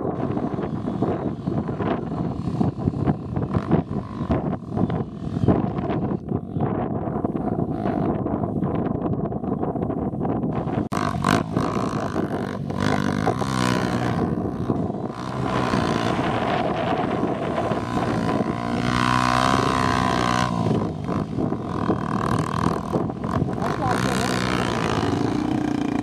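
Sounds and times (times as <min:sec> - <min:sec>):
dirt bike engine revving: 0:00.0 - 0:06.2, 0:10.6 - 0:26.0.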